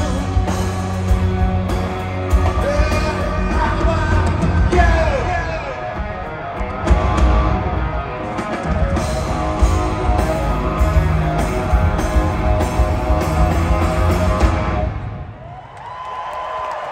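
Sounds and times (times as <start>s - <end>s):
live rock band playing: 0.0s - 15.3s.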